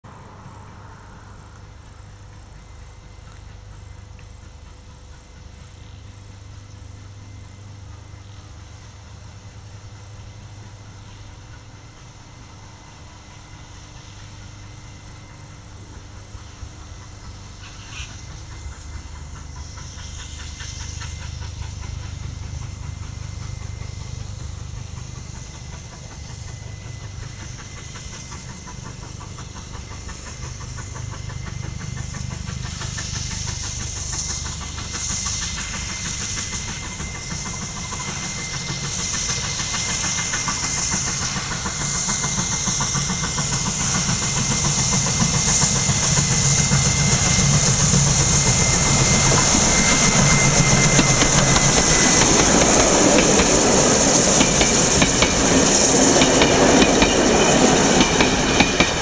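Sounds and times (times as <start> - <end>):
distant steam locomotive: 0.0 - 59.0.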